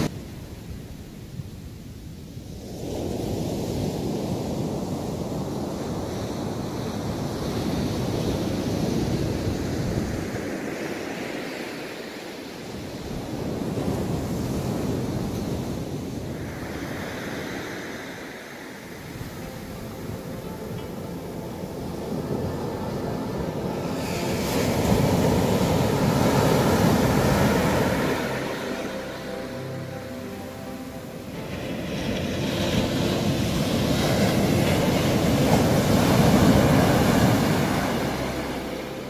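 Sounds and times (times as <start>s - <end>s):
waves breaking: 2.5s - 39.0s.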